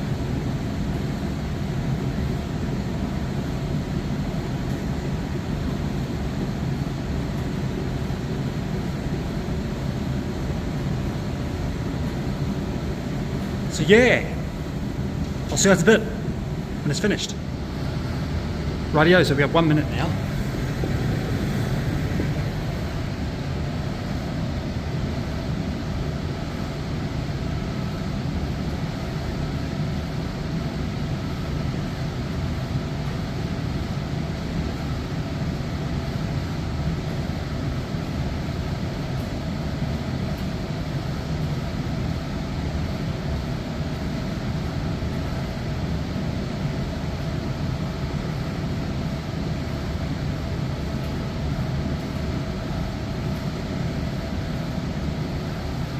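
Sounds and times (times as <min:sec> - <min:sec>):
tumble dryer running: 0:00.0 - 0:55.9.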